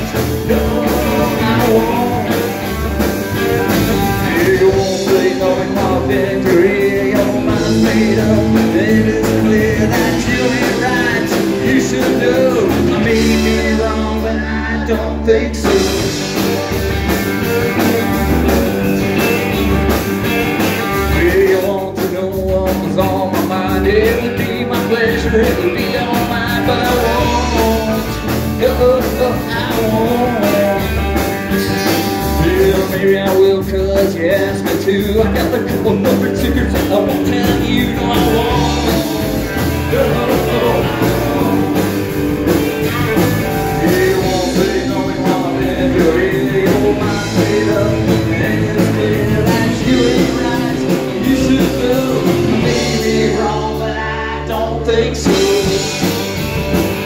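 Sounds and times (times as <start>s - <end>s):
lead vocal singing: 0.0s - 19.7s, 20.3s - 56.5s
drum kit: 0.0s - 57.0s
electric bass: 0.0s - 57.0s
electric guitars: 0.0s - 57.0s.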